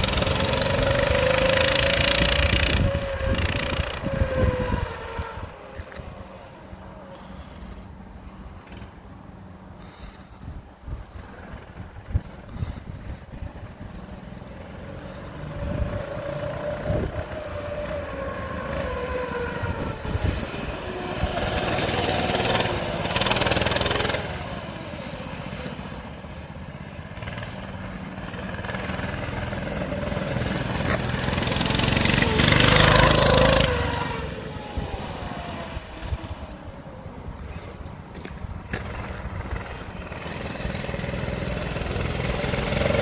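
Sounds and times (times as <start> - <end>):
go-kart engine revving: 0.0 - 9.2, 11.0 - 43.0.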